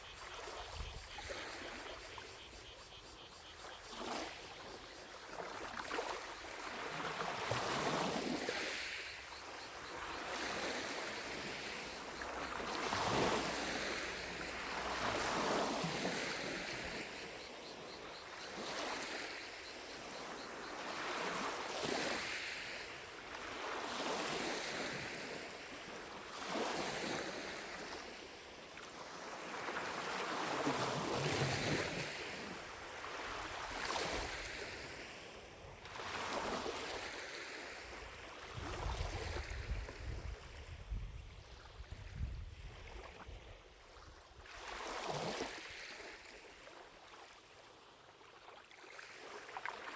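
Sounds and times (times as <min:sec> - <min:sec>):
waves lapping against shore: 0:00.0 - 0:02.8, 0:03.4 - 0:49.9
distant cicadas buzzing: 0:00.0 - 0:48.2.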